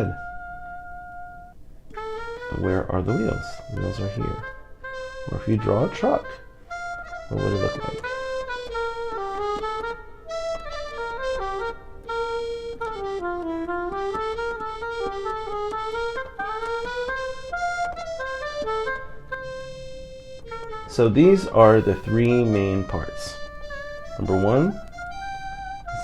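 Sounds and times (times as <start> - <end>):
accordion-like instrument melody: 0.0 - 26.0.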